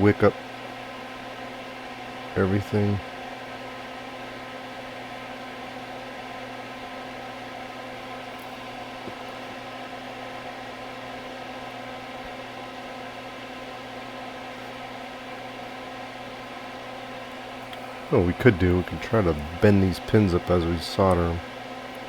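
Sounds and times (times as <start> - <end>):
electrical hum: 0.0 - 22.0
fan-like hiss: 0.0 - 22.0.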